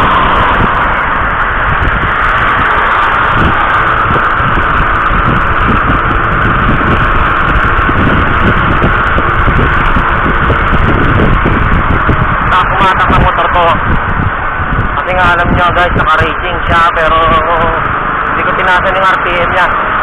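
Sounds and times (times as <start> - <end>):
low buffeting thumps: 0.0 - 19.0
moving vehicle noise: 0.0 - 20.0
wind on microphone: 0.0 - 20.0.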